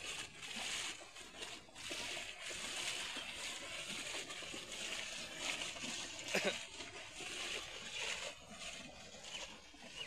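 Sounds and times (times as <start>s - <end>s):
person wading through water: 0.0s - 10.0s.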